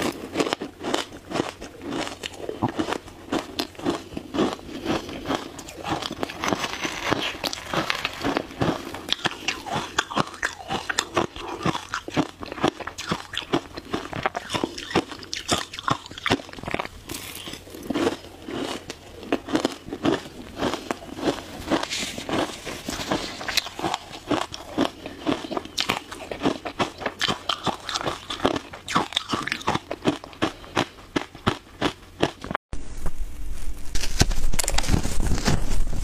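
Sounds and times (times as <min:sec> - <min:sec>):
person chewing crushed ice: 0:00.0 - 0:32.6.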